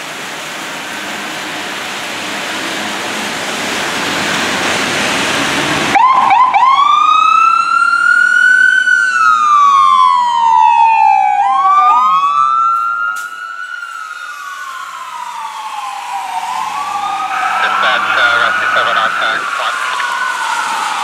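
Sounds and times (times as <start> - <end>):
fire engine siren wailing: 0.0 - 21.0.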